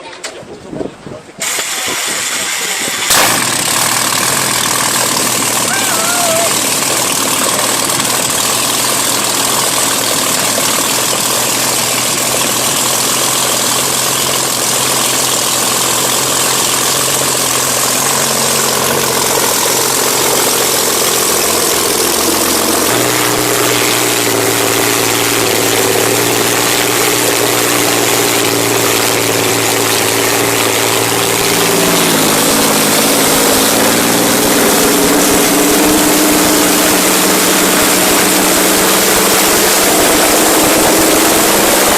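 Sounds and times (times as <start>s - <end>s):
large engine running: 1.4s - 41.9s.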